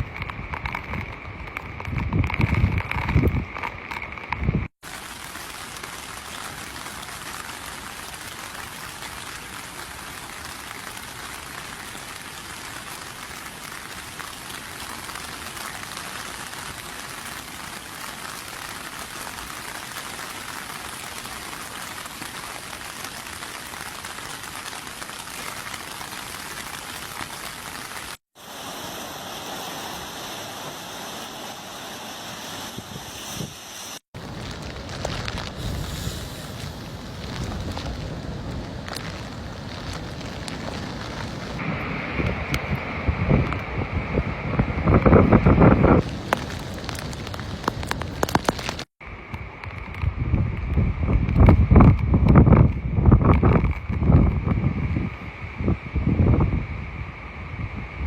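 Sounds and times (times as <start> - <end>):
heavy rain pouring: 0.0 - 55.2
wind rumbling on microphone: 0.0 - 58.0.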